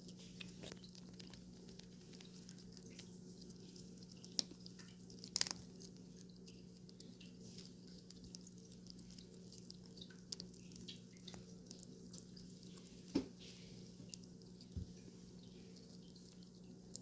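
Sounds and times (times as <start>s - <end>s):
cats licking and chewing food: 0.0s - 17.0s
refrigerator hum: 0.0s - 17.0s.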